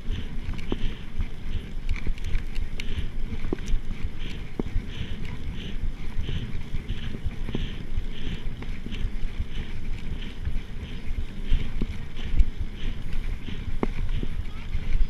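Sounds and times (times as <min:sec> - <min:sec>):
bike rattling over bumps: 0:00.0 - 0:15.0
bike tyres rumbling on dirt: 0:00.0 - 0:15.0
wind buffeting microphone: 0:00.0 - 0:15.0.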